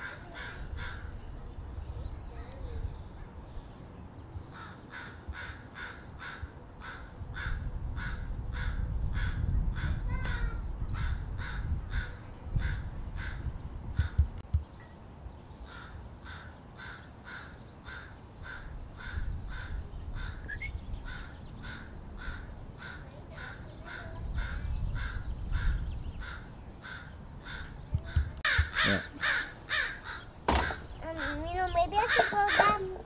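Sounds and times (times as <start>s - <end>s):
crows cawing: 0.0s - 1.1s, 4.5s - 9.9s, 11.0s - 14.2s, 15.7s - 31.4s, 32.0s - 33.0s.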